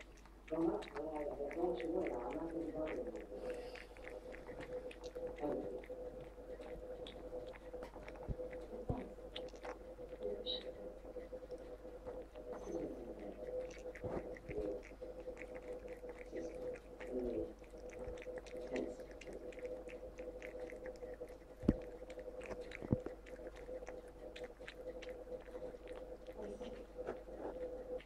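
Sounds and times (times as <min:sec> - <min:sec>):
cat licking and lapping: 0:00.0 - 0:28.0
steady hum: 0:00.0 - 0:28.0.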